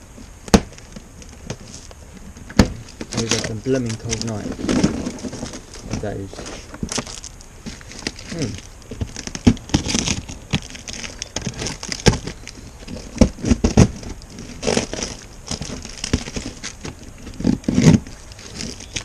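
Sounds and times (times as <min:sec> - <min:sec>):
packaging torn and crumpled: 0:03.1 - 0:19.0.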